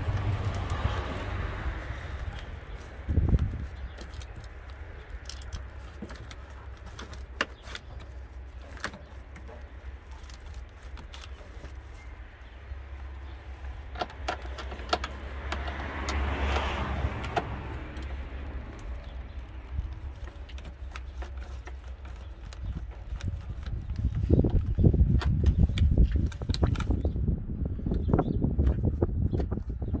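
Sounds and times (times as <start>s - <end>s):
plastic connectors clicking and rattling: 0.0s - 27.0s
low steady rumble: 0.0s - 30.0s.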